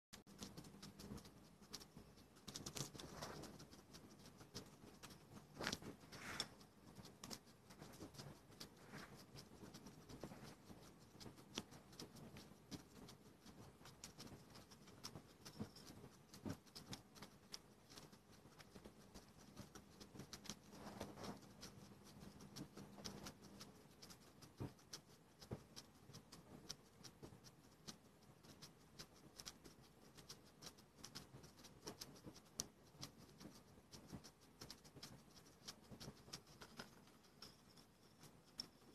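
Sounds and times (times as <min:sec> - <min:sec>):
guinea pigs crunching pellets: 0:00.2 - 0:38.9.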